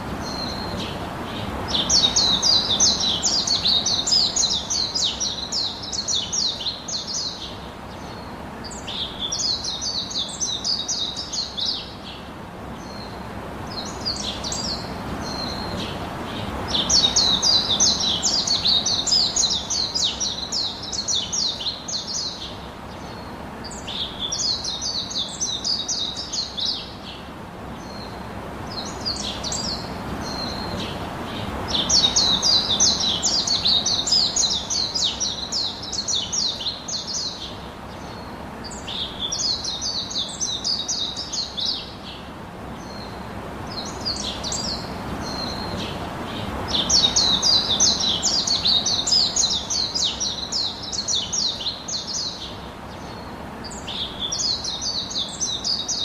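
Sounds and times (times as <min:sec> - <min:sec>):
small birds twittering: 0:00.0 - 0:56.0
steady background hiss: 0:00.0 - 0:56.0.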